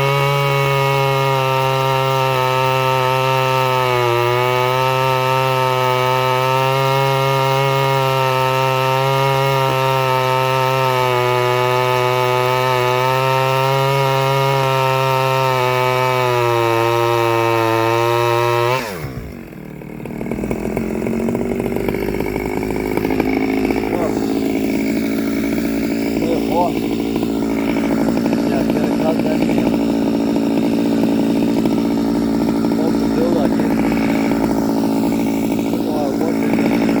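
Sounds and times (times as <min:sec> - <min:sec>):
chainsaw revving and idling: 0:00.0 - 0:37.0.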